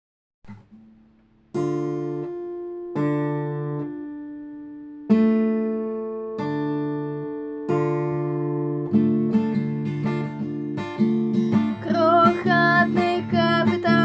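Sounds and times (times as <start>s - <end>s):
acoustic guitar strumming: 0.5s - 14.0s.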